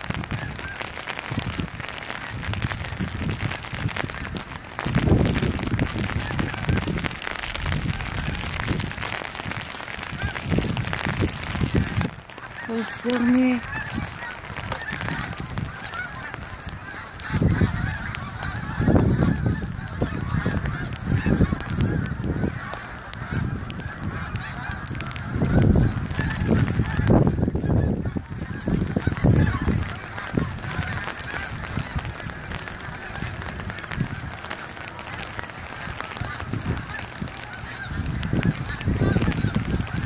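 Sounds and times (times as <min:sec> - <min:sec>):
geese honking: 0:00.0 - 0:40.0
wind buffeting microphone: 0:00.0 - 0:40.0.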